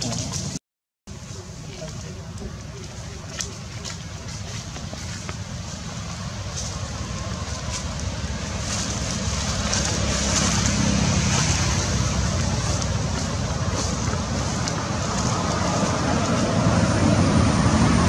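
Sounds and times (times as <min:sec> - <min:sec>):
low rumble with hiss: 0:01.1 - 0:18.0.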